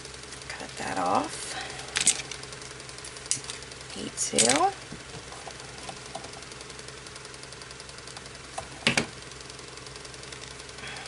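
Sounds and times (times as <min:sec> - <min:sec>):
small motor humming and ticking: 0:00.0 - 0:11.0.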